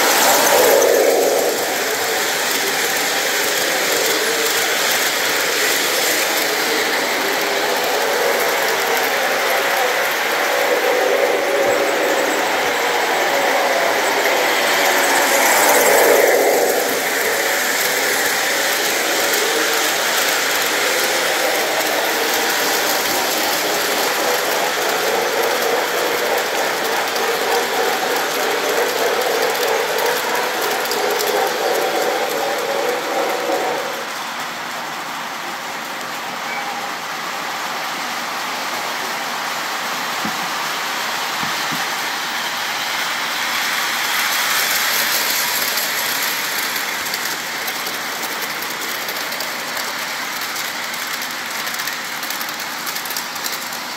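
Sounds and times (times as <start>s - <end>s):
model train motor and wheels running: 0.0s - 53.9s.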